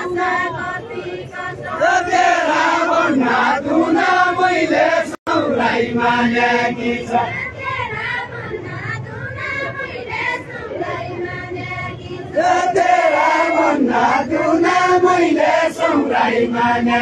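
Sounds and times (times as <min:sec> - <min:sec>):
group singing chanted refrain: 0:00.0 - 0:17.0.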